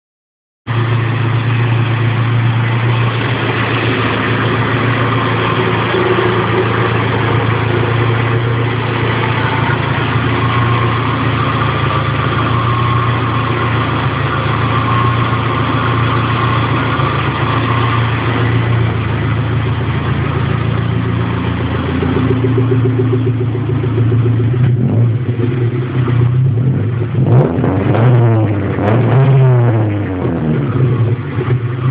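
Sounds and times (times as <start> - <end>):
car engine idling: 0.7 - 31.9.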